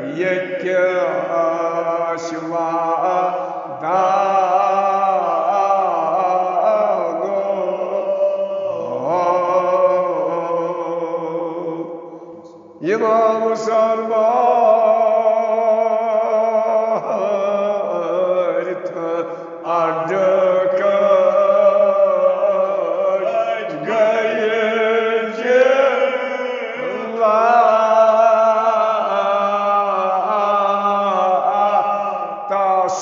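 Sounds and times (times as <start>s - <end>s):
man chanting: 0.0s - 33.0s.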